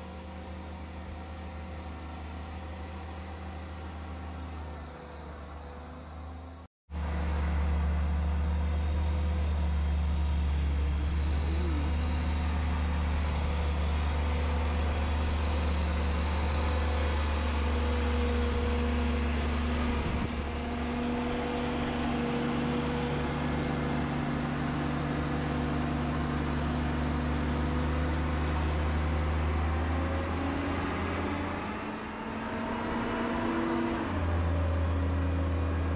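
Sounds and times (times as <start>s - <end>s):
engine running with deep hum: 0.0s - 35.9s.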